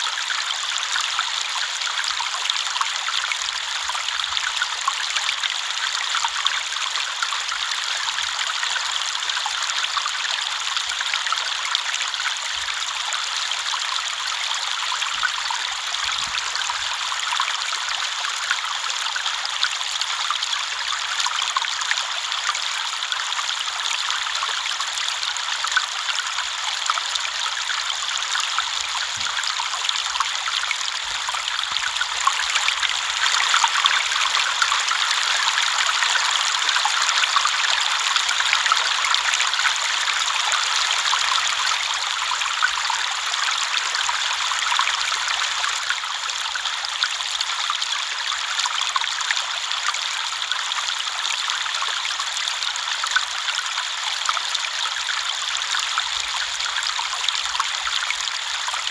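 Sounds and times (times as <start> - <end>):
river water flowing over stones: 0.0 - 58.9.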